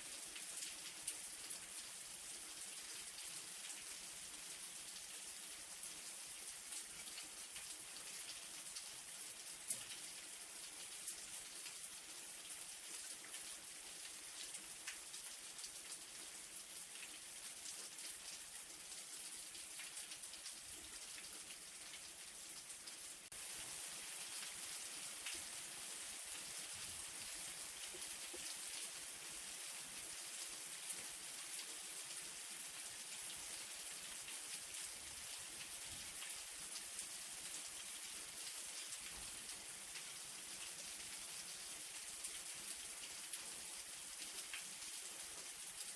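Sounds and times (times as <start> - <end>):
light rain falling: 0.0 - 45.9.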